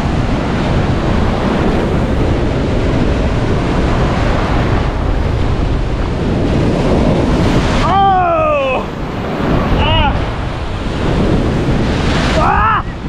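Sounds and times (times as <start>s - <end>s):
sea surf breaking on shore: 0.0s - 13.0s
wind rumbling on microphone: 0.0s - 13.0s.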